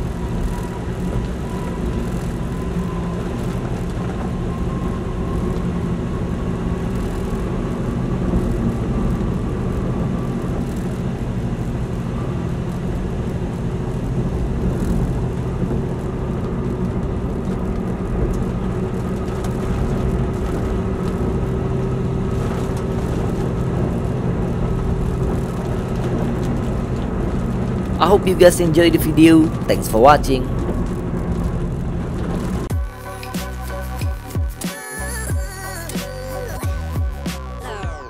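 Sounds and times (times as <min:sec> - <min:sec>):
car engine drone: 0:00.0 - 0:38.0.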